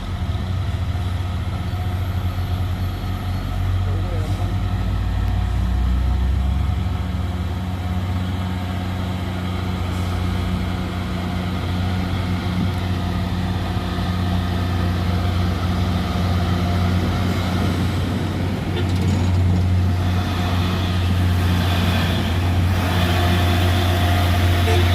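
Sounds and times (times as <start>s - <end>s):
truck diesel engine running: 0.0s - 24.9s.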